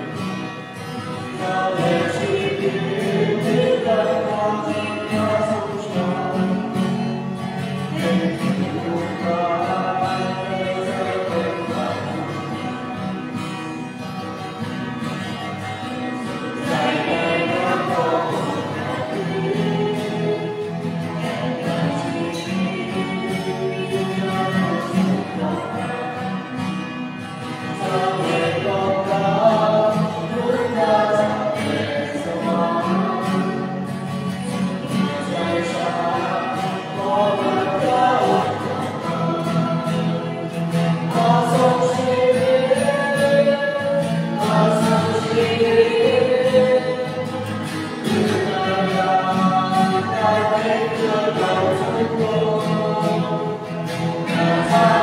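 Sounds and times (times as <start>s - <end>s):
choir singing a hymn: 0.0s - 13.4s, 15.1s - 55.0s.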